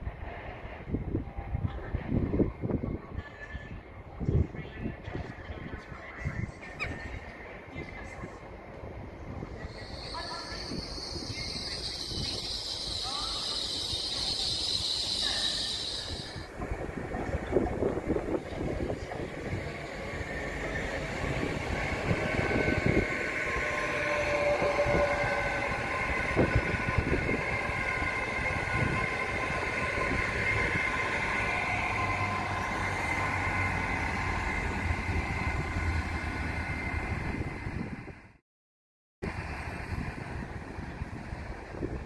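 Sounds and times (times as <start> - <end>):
train running noise: 0.0 - 38.4, 39.2 - 42.0.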